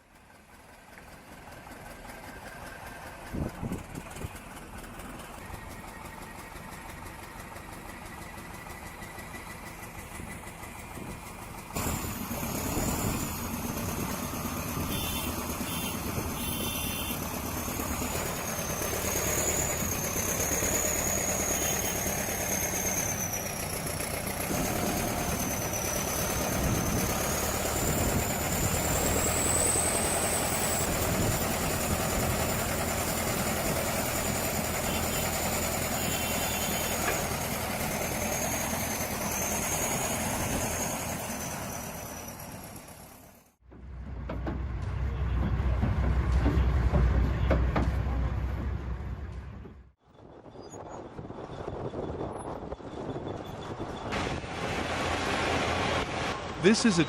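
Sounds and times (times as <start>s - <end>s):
heavy vehicle engines running: 0.0s - 57.0s.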